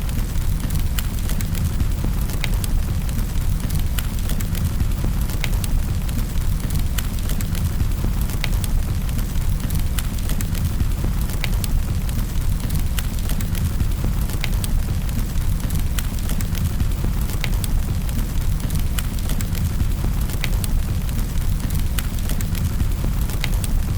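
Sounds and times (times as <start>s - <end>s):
fire crackling and popping: 0.0s - 23.9s
low rumble of flame: 0.0s - 23.9s.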